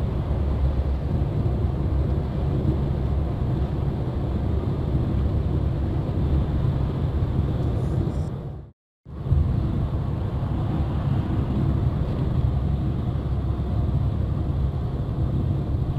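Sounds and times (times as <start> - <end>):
bus engine and tyres rumbling: 0.0 - 15.9.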